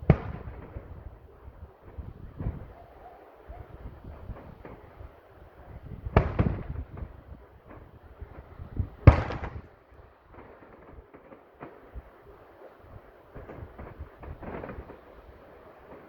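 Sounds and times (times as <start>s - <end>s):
fireworks crackles: 0.0s - 2.8s, 3.7s - 16.0s
fireworks bangs: 0.0s - 3.0s, 3.6s - 12.1s, 13.0s - 16.0s.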